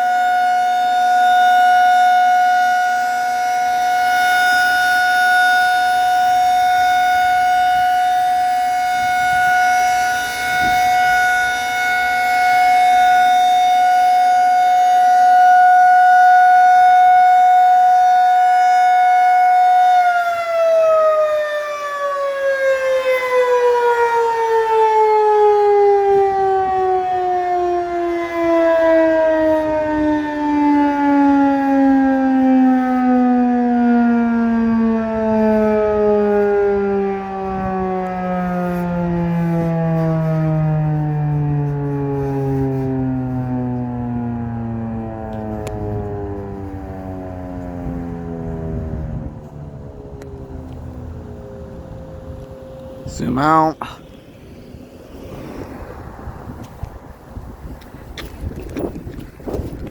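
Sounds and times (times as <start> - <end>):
warning siren: 0.0 - 59.9.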